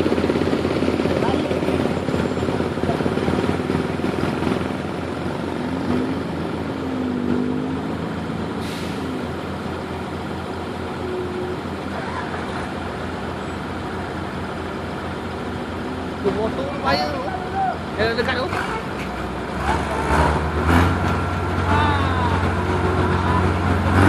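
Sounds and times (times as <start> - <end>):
heavy engine running: 0.0 - 24.0.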